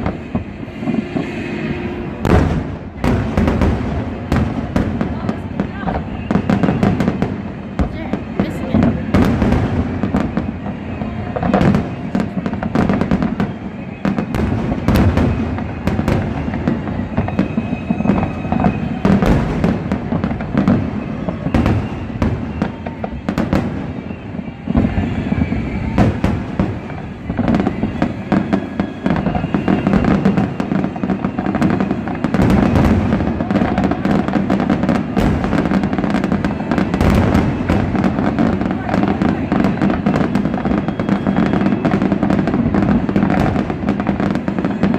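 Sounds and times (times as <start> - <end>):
fireworks bangs and booms: 0.0 - 44.9
fireworks crackling: 0.0 - 44.9.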